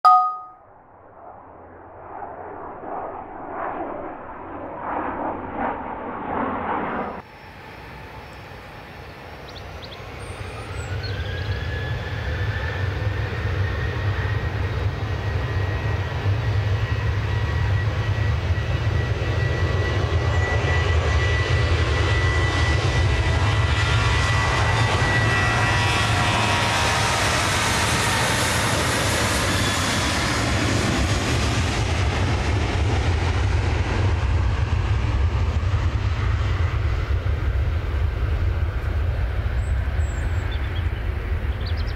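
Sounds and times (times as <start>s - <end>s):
jet engines spooling up: 1.1s - 41.9s.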